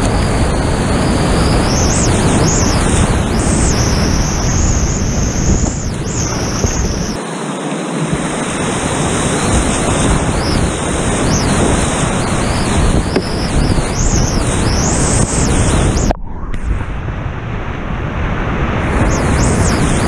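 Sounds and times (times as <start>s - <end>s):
wind buffeting microphone: 0.0s - 7.2s, 8.0s - 20.0s.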